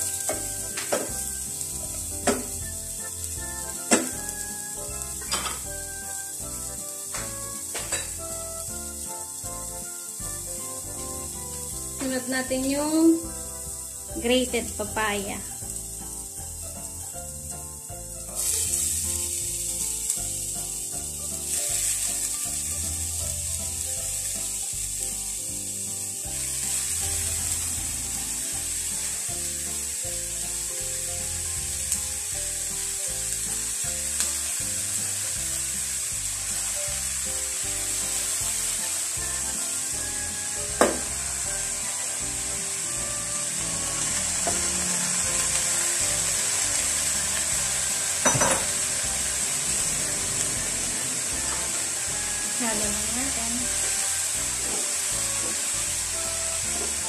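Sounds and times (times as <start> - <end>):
papaya sizzling in a pot: 0.0 - 57.0.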